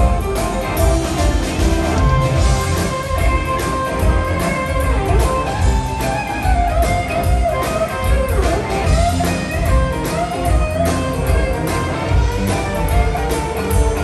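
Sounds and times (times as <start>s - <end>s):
bending lead guitar line: 0.0s - 14.0s
live band playing boogie-woogie: 0.0s - 14.0s
steady drum beat: 0.0s - 14.0s.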